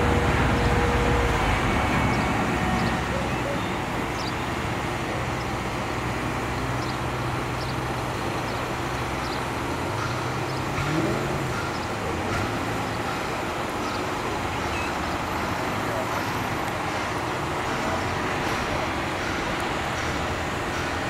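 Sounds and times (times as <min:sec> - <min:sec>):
hum of passing vehicles: 0:00.0 - 0:21.0.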